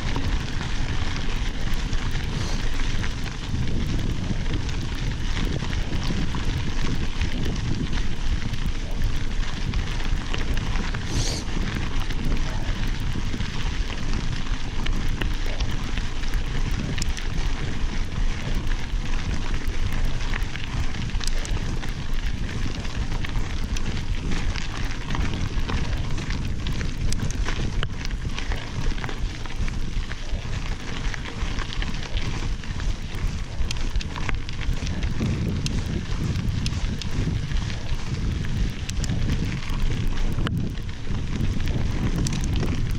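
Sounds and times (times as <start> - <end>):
bike rattling clicks: 0.0 - 42.9
bike tyres crunching on gravel: 0.0 - 42.9
wind rumble on microphone: 0.0 - 42.9.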